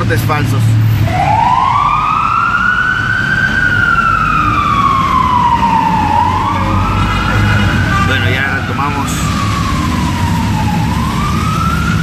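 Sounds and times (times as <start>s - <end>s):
car engine and road rumble: 0.0s - 12.0s
ambulance siren wailing: 1.0s - 12.0s.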